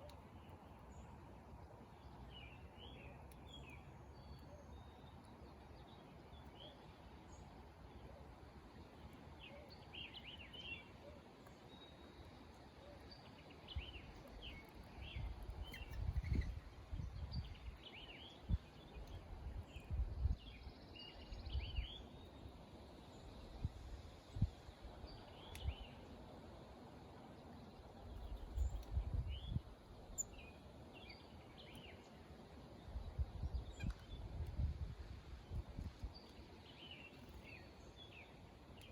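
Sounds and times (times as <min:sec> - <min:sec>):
small birds chirping: 0:00.0 - 0:26.2, 0:27.3 - 0:34.8, 0:35.4 - 0:38.9.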